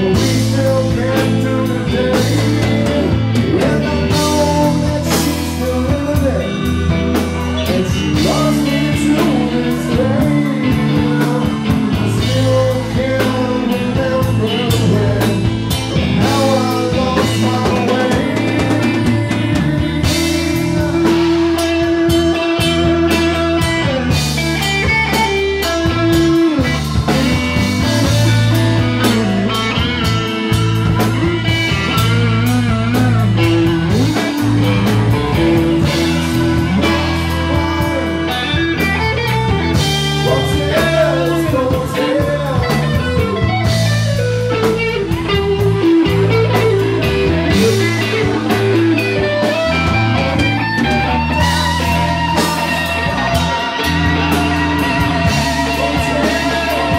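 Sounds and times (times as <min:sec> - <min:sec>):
bass guitar: 0:00.0 - 0:56.9
drum kit: 0:00.0 - 0:56.9
electric guitar lead: 0:00.0 - 0:56.9.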